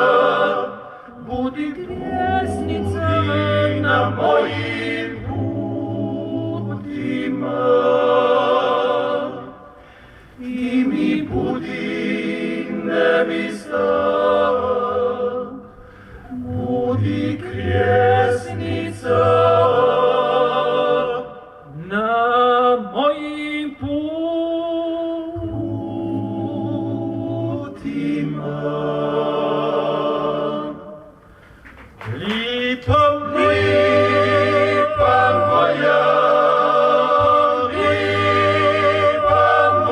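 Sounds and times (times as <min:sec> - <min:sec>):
male choir singing in harmony: 0:00.0 - 0:31.2, 0:32.0 - 0:39.9.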